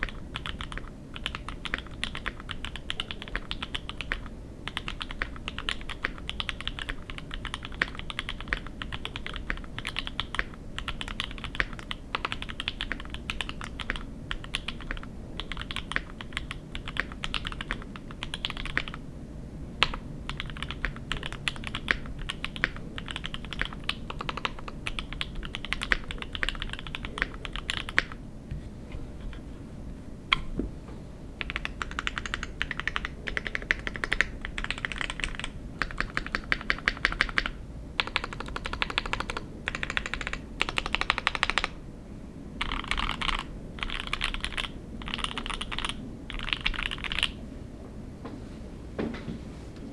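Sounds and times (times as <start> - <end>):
fast typing on mechanical keyboard: 0.0 - 19.0, 19.8 - 28.2, 31.4 - 41.8, 42.6 - 47.4.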